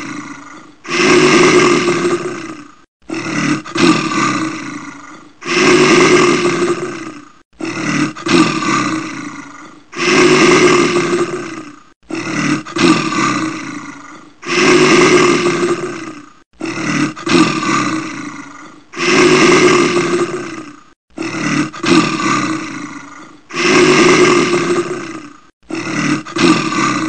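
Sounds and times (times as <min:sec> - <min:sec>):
animal roaring: 0:00.0 - 0:27.0.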